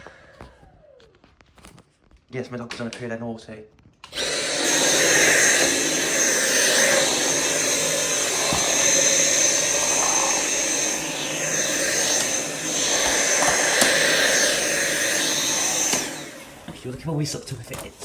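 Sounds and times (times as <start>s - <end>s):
vacuum cleaner whining: 0.0s - 1.2s, 4.1s - 18.0s.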